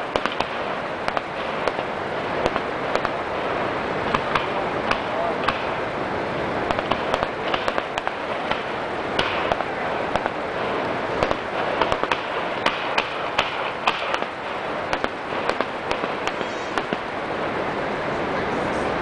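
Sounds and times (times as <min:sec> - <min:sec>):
fireworks bangs and pops: 0:00.0 - 0:05.9, 0:06.6 - 0:17.5
rushing background noise: 0:00.0 - 0:19.0.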